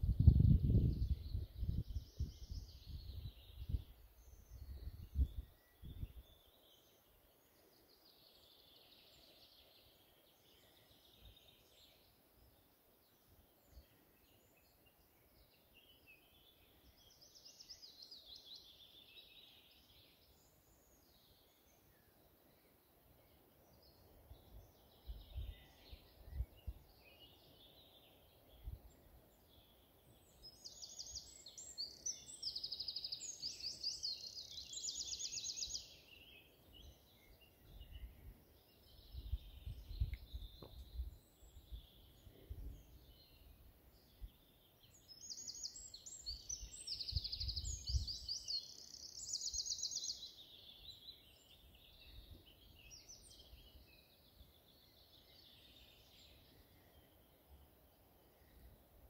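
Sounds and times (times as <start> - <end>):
faint high birdsong: 0.0 - 59.0.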